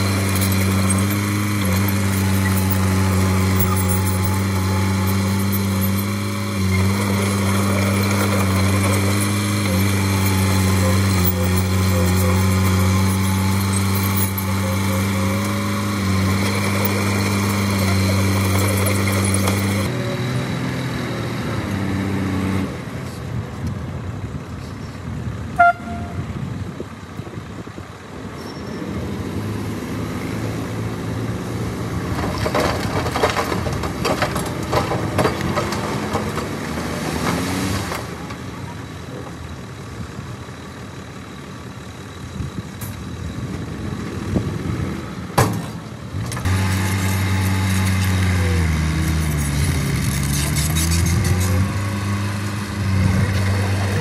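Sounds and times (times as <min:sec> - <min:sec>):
heavy diesel engine running: 0:00.0 - 0:20.4, 0:30.9 - 0:54.0
rough quieter engine: 0:00.0 - 0:54.0.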